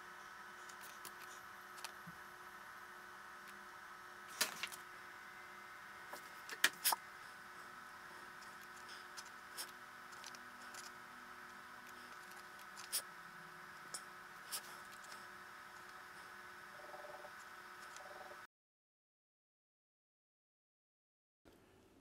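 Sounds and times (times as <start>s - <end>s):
faint electronic hum: 0.0s - 18.5s.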